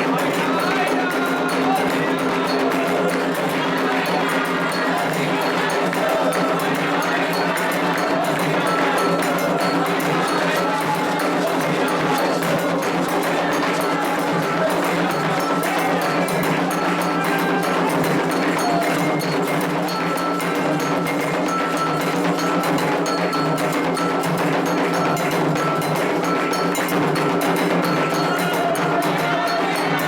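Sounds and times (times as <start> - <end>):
hand drums playing: 0.0 - 30.0
metal bell striking: 1.2 - 30.0.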